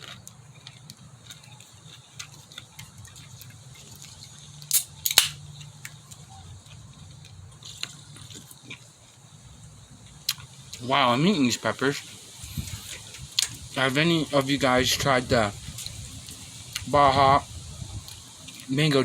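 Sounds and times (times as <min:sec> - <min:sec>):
crunchy chewing: 0:00.0 - 0:14.6, 0:17.5 - 0:19.0.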